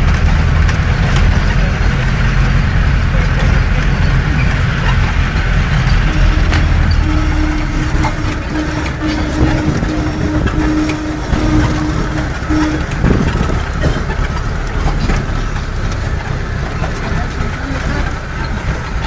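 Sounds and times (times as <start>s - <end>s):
low pulsing beeping tone: 0.0s - 19.0s
vehicle rumbling and rattling: 0.0s - 19.0s.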